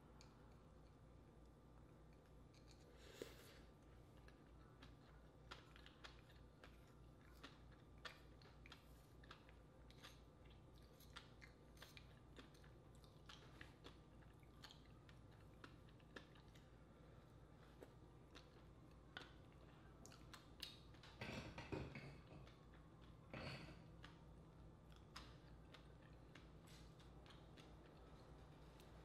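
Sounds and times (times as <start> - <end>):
low steady hum: 0.0 - 29.0
close-up chewing: 0.2 - 21.2, 22.2 - 29.0.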